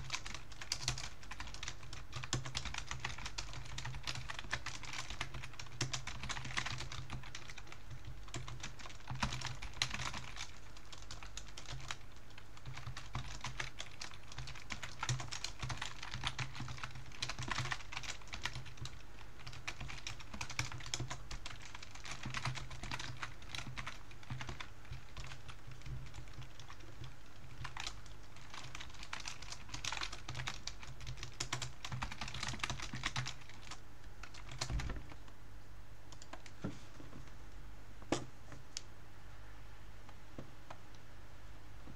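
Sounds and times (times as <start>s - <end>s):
keyboard typing: 0.0s - 35.3s, 36.1s - 36.6s
low steady hum: 0.0s - 41.9s.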